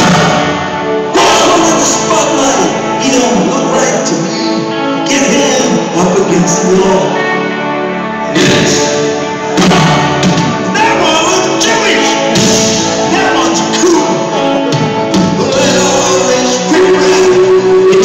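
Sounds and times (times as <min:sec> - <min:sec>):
live band music with singing: 0:00.0 - 0:18.0.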